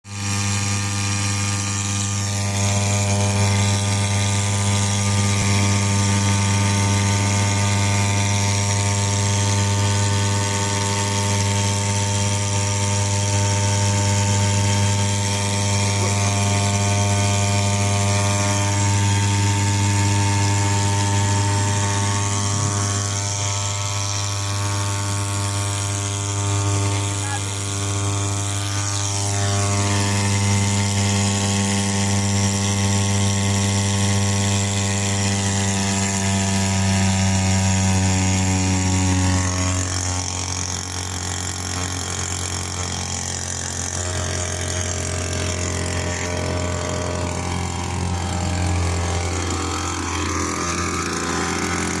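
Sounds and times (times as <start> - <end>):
small petrol engine droning: 0.1 - 52.0.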